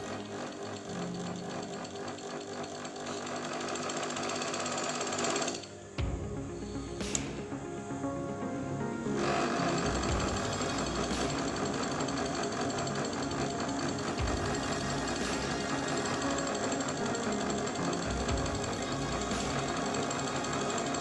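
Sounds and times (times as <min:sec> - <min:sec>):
sewing machine running fast: 0:00.0 - 0:05.7, 0:09.2 - 0:21.0.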